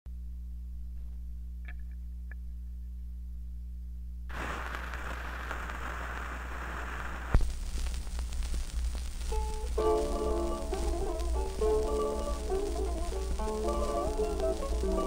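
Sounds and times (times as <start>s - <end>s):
playback equipment hum: 0.1s - 15.0s
record surface hiss and crackle: 0.1s - 15.0s.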